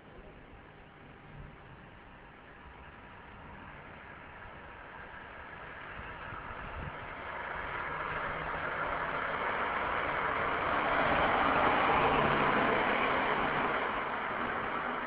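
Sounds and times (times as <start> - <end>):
car passing: 2.8 - 15.0.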